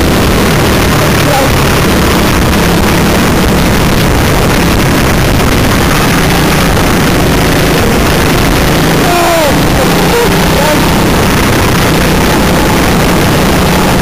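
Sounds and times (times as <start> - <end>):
go-kart engine drone: 0.0 - 14.0.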